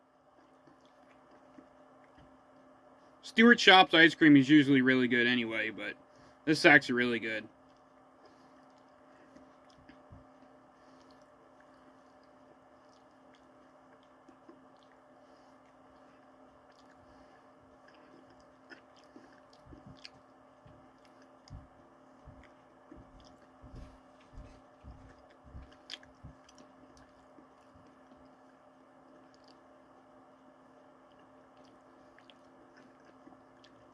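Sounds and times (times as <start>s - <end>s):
chewing ice cream: 0.0s - 2.7s, 7.5s - 33.9s
steady low hum: 0.0s - 33.9s.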